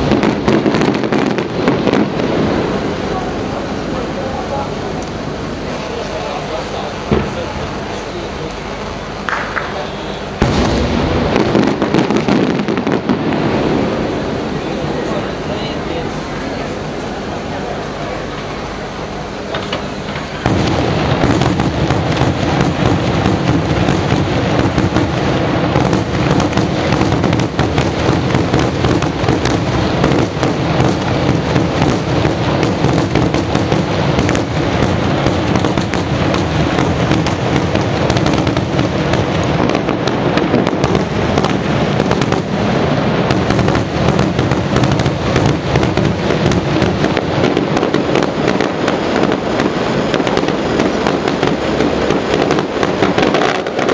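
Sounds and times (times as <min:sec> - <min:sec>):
fireworks crackling and banging: 0:00.0 - 0:53.9.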